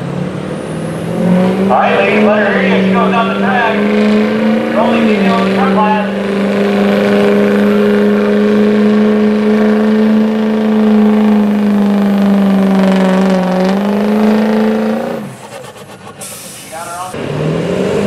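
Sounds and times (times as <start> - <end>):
truck engine running hard: 0.0 - 18.0.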